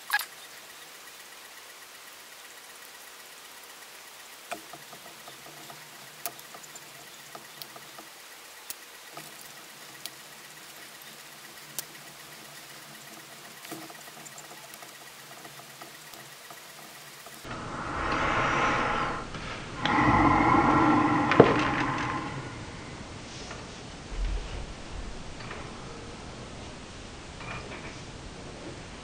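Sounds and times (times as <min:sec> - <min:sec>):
low steady hiss: 0:00.0 - 0:29.0.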